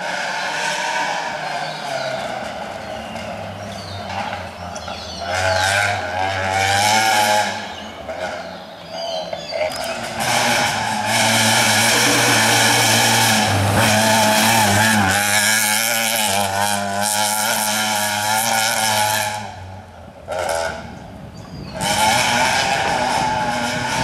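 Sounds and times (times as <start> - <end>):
rally car engine at high revs: 0.0 - 8.6, 9.3 - 24.0.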